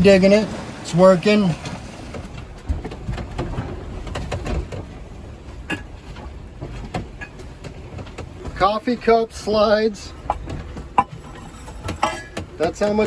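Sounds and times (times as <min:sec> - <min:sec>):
hull rumbling through water: 0:00.0 - 0:13.0
loose objects knocking and sliding: 0:00.0 - 0:13.0.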